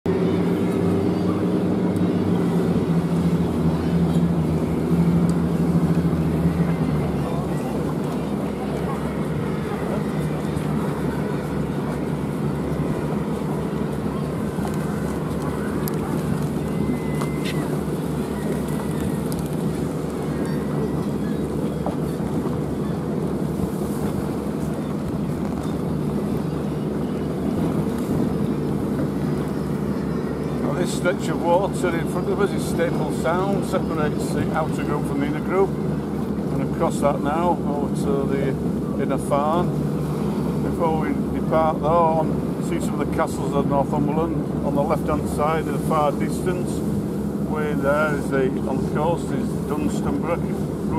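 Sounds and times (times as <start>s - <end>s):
boat engine droning: 0.0s - 50.9s
water noise: 0.0s - 50.9s
wind: 0.0s - 50.9s.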